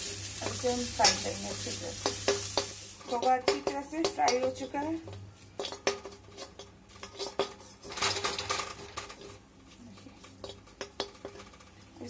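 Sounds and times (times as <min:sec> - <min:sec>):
spatula scraping a metal pan: 0:00.2 - 0:11.8.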